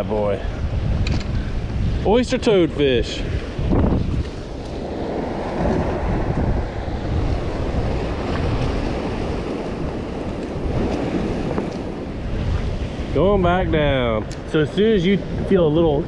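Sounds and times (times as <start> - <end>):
waves washing around boat: 0.0 - 16.0
wind on microphone: 0.0 - 16.0.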